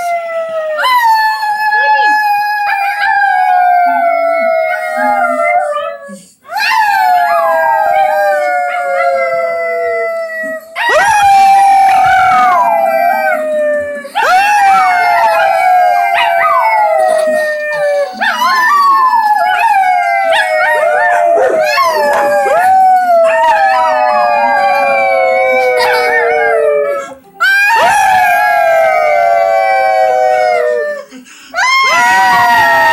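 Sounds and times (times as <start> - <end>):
dogs howling: 0.0 - 32.9.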